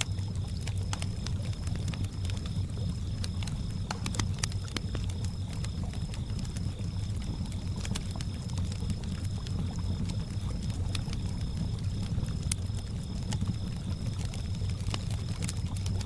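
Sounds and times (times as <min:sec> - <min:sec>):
crickets chirping: 0:00.0 - 0:16.0
wood fire crackling and popping: 0:00.0 - 0:16.0.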